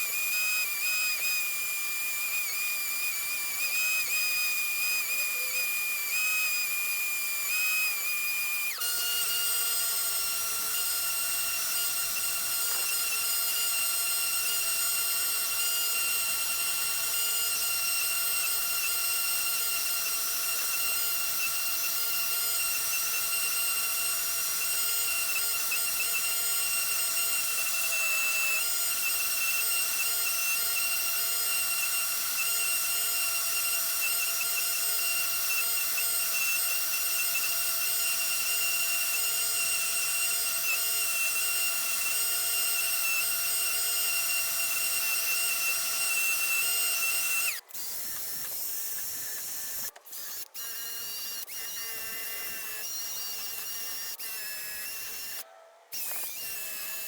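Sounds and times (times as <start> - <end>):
power tool high whine: 0.0 - 57.0.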